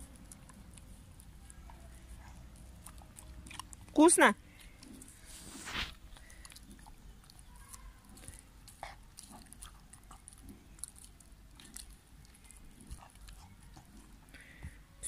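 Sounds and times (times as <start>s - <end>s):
dog chewing banana: 0.0s - 15.0s.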